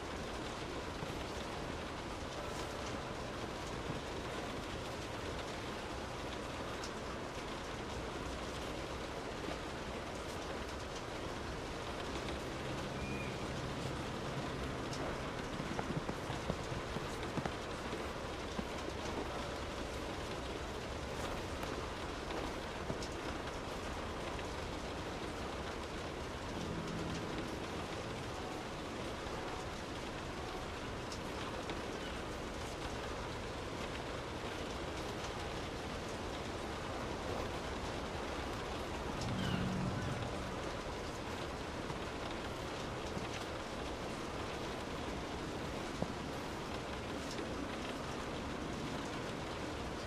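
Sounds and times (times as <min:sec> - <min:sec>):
faint raindrops: 0:00.0 - 0:50.0
steady rain falling: 0:00.0 - 0:50.0.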